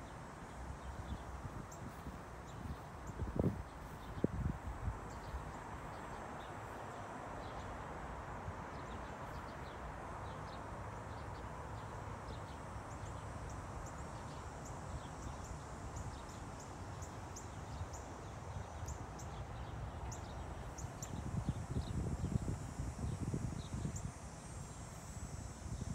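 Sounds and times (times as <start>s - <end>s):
insects and birds chirping: 0.0s - 25.9s.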